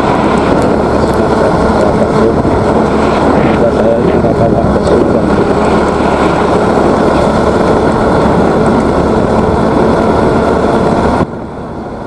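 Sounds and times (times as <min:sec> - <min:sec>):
motorcycle engine: 0:00.0 - 0:12.0
road noise: 0:00.0 - 0:12.0
wind rushing over microphone: 0:00.0 - 0:12.0.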